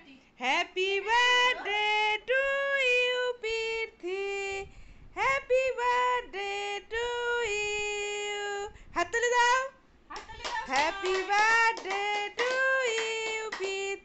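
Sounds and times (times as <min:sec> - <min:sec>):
person singing: 0:00.4 - 0:08.7, 0:10.7 - 0:14.0.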